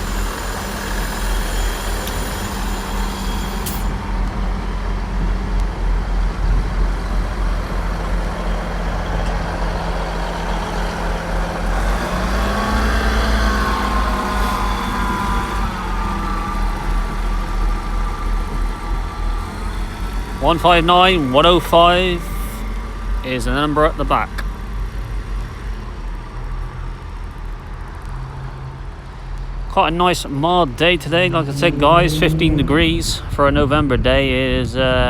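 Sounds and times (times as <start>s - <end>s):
high whine: 0.0s - 25.2s, 29.7s - 35.0s
diesel train engine droning: 0.0s - 35.0s.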